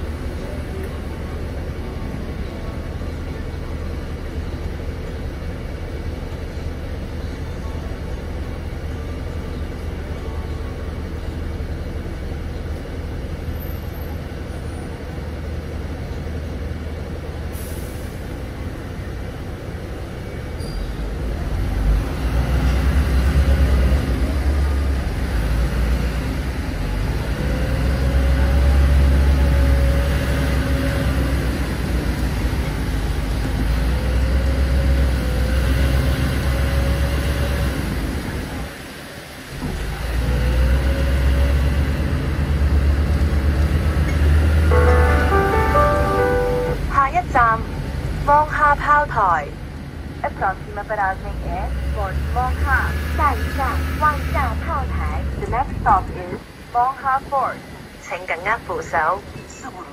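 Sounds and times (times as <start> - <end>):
bus engine rumbling: 0.0 - 59.9.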